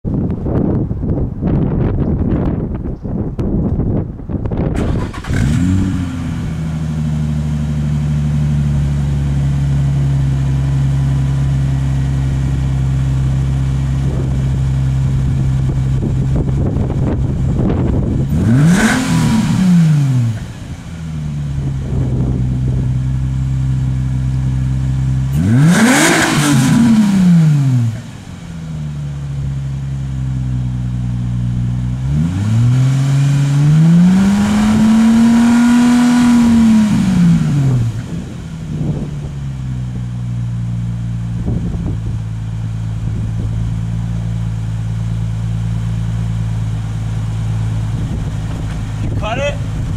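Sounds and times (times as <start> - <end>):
car engine idling and revving: 3.4 - 49.9.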